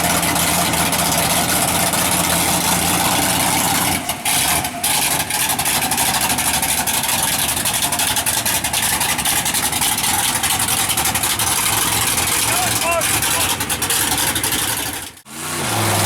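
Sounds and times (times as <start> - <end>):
truck engine running loud: 0.0 - 16.0.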